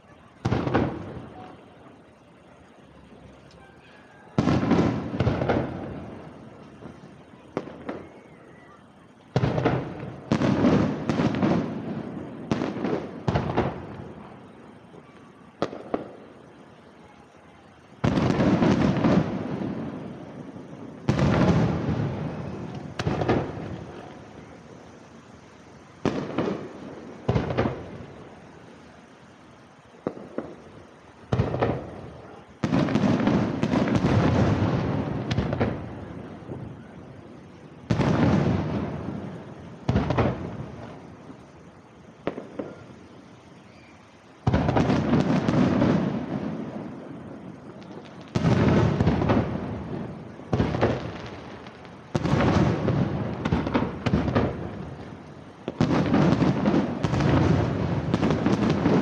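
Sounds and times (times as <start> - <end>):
fireworks bangs with rolling rumble: 0.0 - 59.0.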